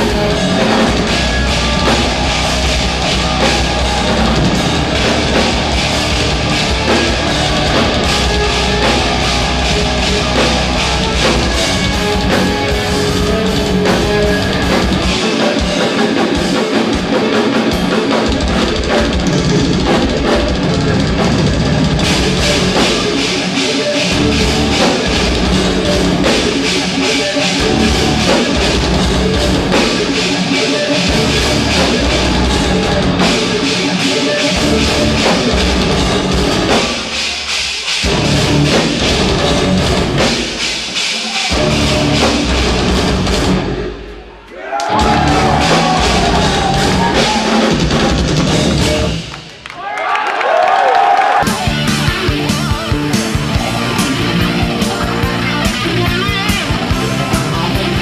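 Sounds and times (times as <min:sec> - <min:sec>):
distorted electric guitars: 0:00.0 - 0:49.6, 0:51.4 - 0:58.0
pounding drum kit: 0:00.0 - 0:49.6, 0:50.8 - 0:58.0.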